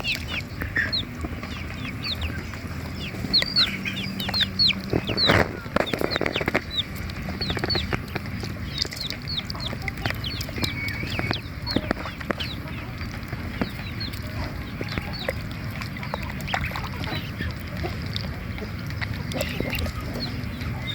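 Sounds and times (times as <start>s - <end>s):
ducklings peeping: 0.0s - 20.9s
steady low hum: 0.0s - 20.9s.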